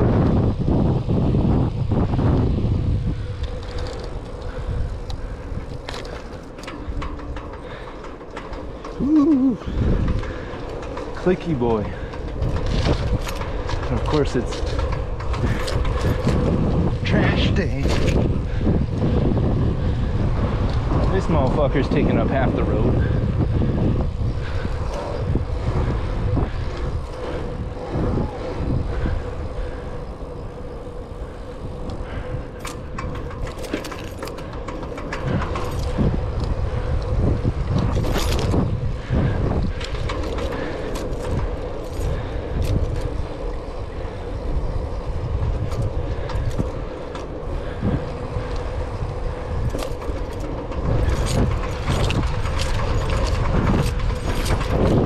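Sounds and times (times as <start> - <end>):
bicycle clicks and rattles: 0.0 - 55.0
bicycle tyre rumble: 0.0 - 55.0
wind buffeting microphone: 0.0 - 55.0.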